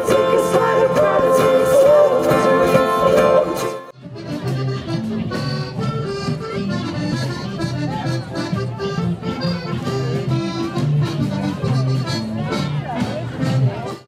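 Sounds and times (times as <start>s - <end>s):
accordion tune: 0.0s - 14.0s.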